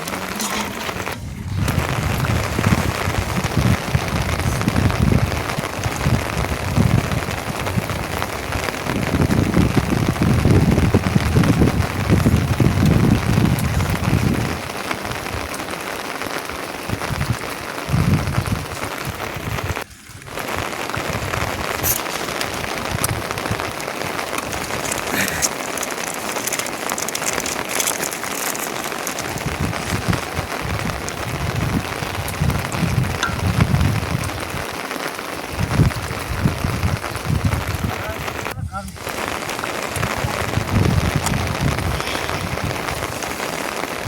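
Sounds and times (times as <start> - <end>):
patters of raindrops: 0.0 - 44.0
steady rain falling: 0.0 - 44.0.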